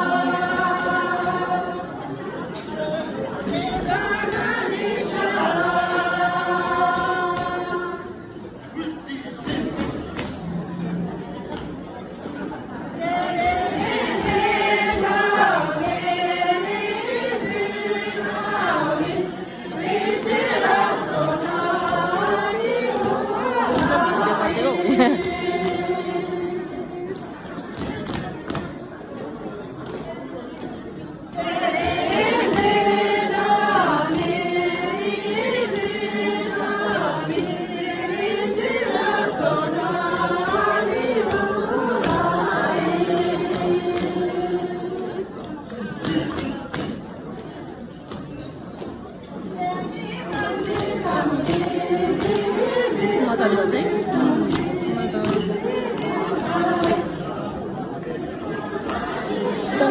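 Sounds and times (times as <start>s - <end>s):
group of voices singing: 0.0s - 11.9s, 12.5s - 29.0s, 31.2s - 47.2s, 49.4s - 59.9s.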